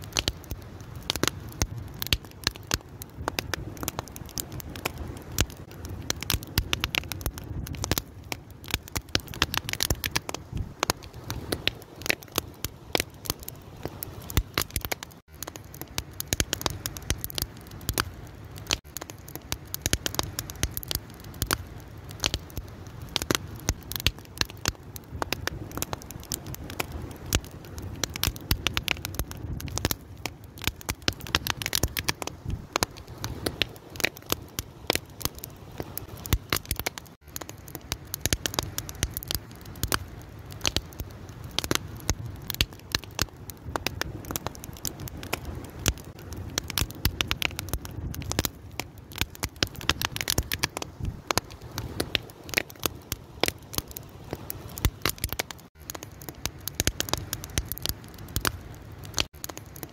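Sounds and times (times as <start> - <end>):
fire crackling and popping: 0.0 - 59.9
low rush of flame: 0.0 - 59.9.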